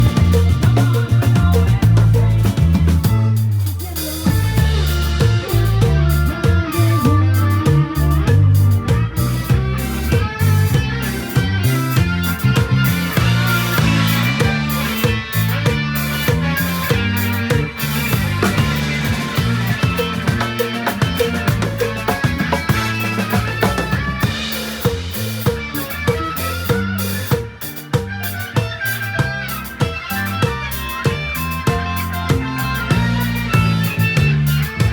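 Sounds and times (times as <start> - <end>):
bass line: 0.0 - 34.9
drums: 0.0 - 34.9
electric guitar bending notes: 0.0 - 34.9.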